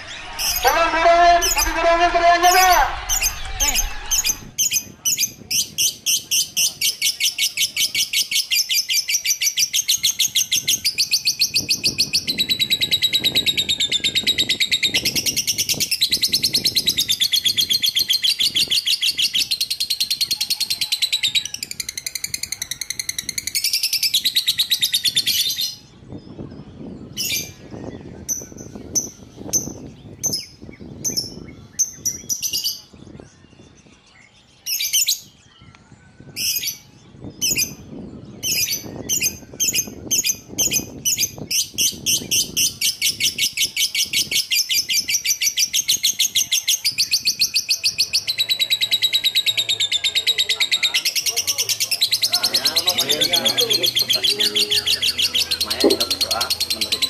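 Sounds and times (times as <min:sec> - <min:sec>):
songbird trilling and chirping: 0:03.2 - 0:57.0.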